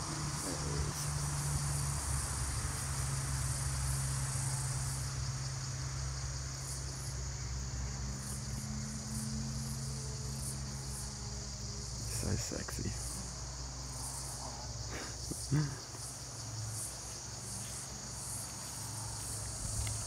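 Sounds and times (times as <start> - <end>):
insect chorus chirring: 0.0 - 20.0.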